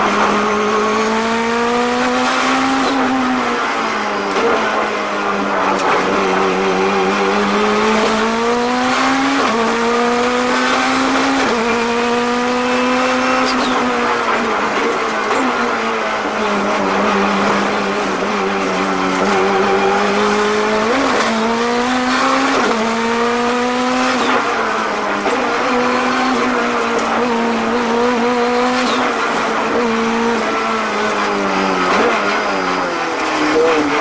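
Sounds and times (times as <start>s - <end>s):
race car engine at full throttle: 0.0s - 34.0s.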